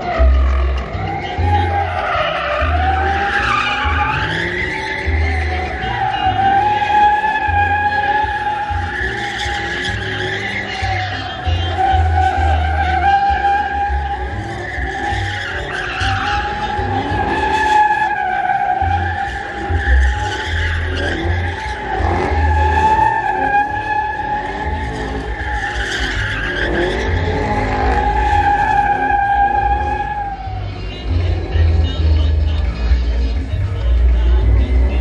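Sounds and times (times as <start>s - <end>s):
tyres squealing: 0.0s - 32.6s.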